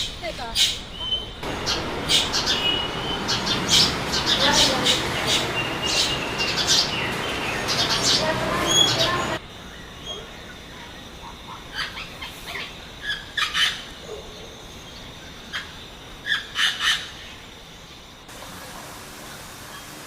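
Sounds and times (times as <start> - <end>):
bird chirps: 0.0 - 18.1
steady background hiss: 0.0 - 20.0.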